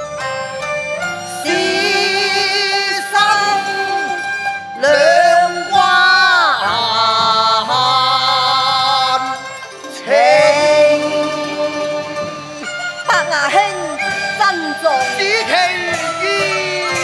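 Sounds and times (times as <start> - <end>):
instrumental ensemble: 0.0 - 17.0
opera singing with wavering notes: 1.1 - 17.0.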